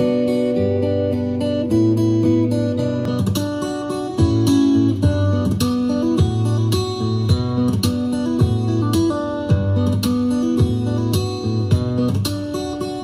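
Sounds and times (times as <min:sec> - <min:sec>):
guitar music with bass line: 0:00.0 - 0:13.0.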